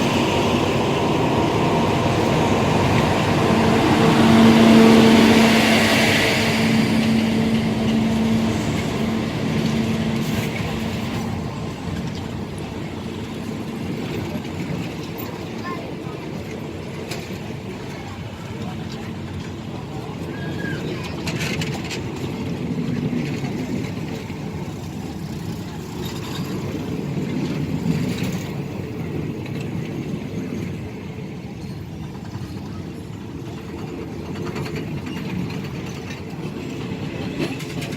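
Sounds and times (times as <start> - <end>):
train engine hum: 0.0 - 37.9
train rolling rumble: 0.0 - 37.9.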